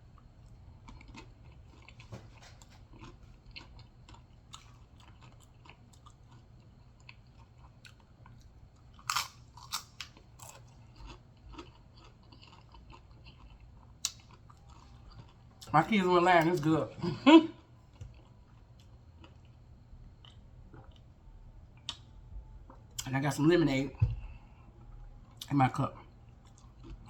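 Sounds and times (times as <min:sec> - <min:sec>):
person chewing crunchy food: 0:00.0 - 0:15.8, 0:17.6 - 0:23.1, 0:24.2 - 0:27.0.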